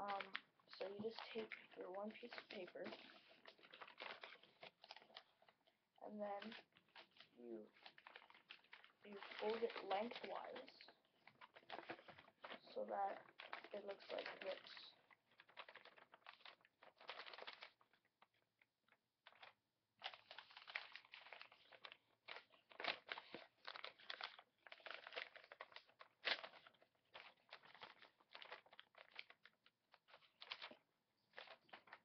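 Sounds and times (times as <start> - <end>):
paper rustling and crinkling: 0.0 - 32.0.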